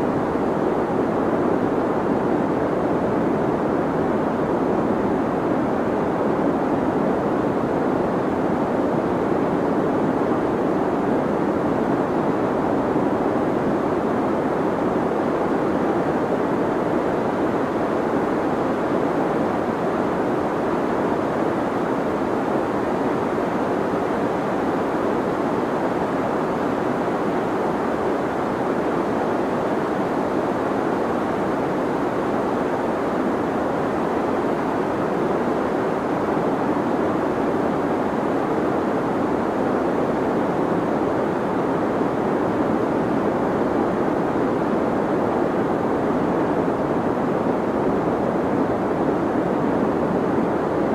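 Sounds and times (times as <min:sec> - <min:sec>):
deep white noise: 0:00.0 - 0:50.9.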